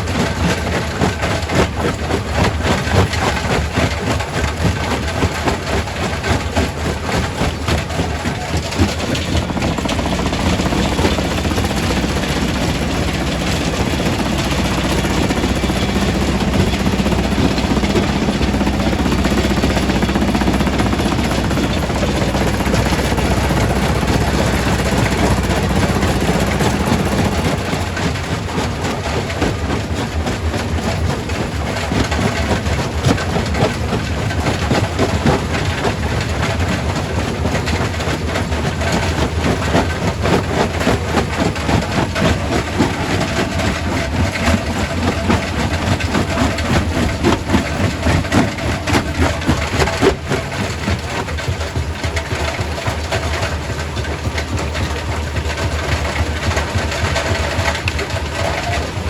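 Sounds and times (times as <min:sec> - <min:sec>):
rock crusher humming: 0:00.0 - 0:59.0.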